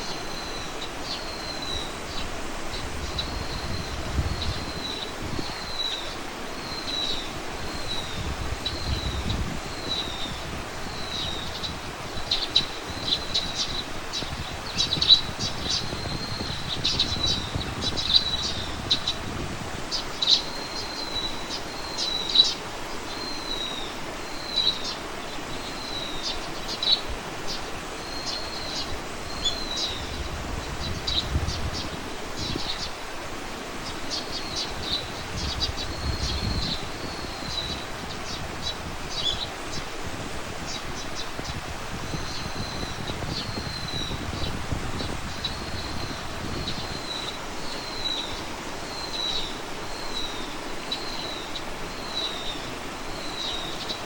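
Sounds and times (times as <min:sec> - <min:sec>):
small birds chirping: 0:00.0 - 0:54.0
steady background hiss: 0:00.0 - 0:54.0.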